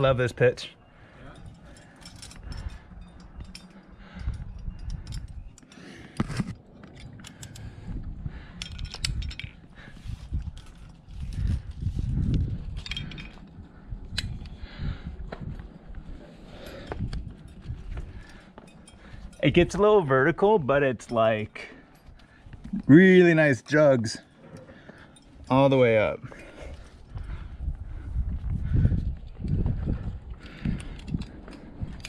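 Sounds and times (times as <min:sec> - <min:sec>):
metal climbing gear clinking: 0:00.0 - 0:32.0.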